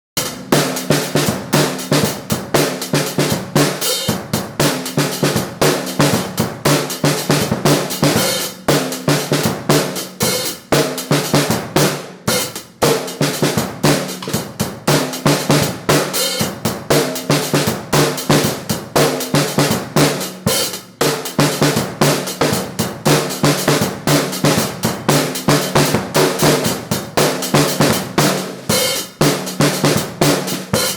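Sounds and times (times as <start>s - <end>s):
drum kit rapid strikes: 0.2s - 30.9s.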